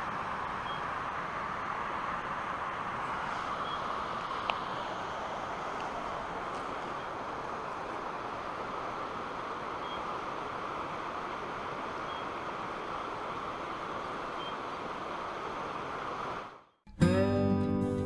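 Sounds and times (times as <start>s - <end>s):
river rushing: 0.0s - 16.6s.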